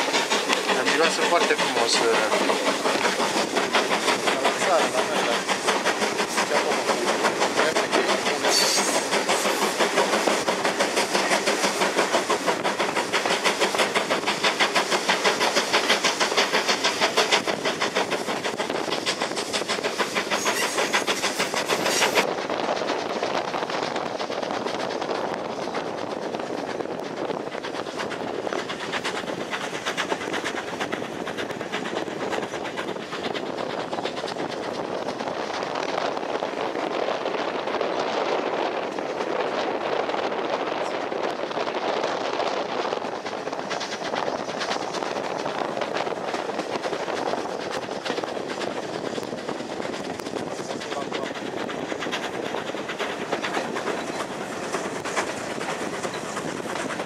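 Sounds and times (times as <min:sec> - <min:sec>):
steam engine chuffing: 0:00.0 - 0:57.0
train wheels on rails: 0:00.0 - 0:57.0.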